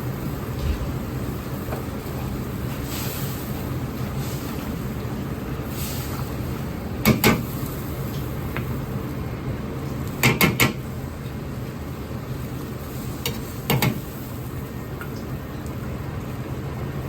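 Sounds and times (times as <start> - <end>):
burners and ventilation noise: 0.0 - 17.0.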